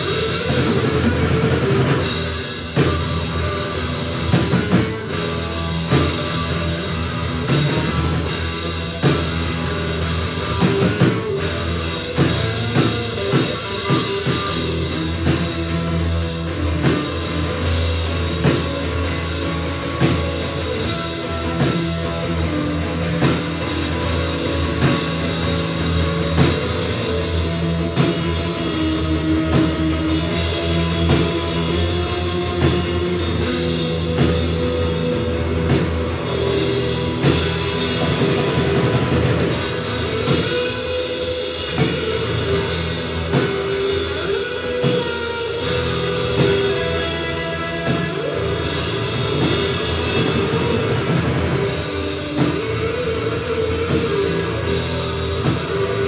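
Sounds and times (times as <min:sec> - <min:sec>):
drum kit: 0:00.0 - 0:56.0
electric guitar through an amp: 0:00.0 - 0:56.0.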